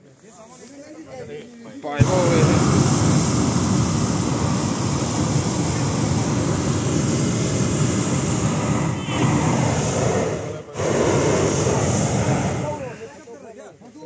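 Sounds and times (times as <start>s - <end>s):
propane burner roaring: 2.0s - 13.4s.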